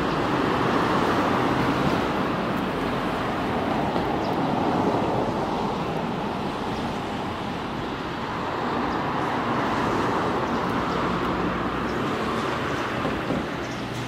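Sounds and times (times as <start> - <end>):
rumble of vehicles: 0.0 - 14.0.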